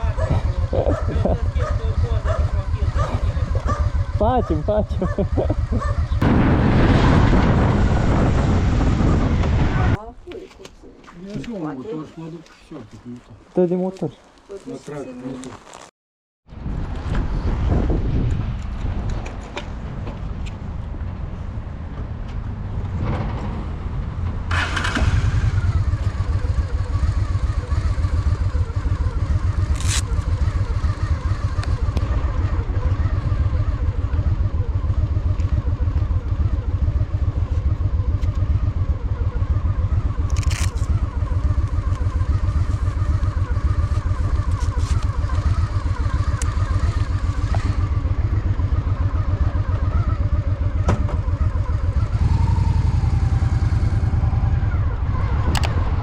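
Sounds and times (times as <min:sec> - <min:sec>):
motorcycle engine rumbling: 0:00.0 - 0:10.2, 0:16.6 - 0:56.0.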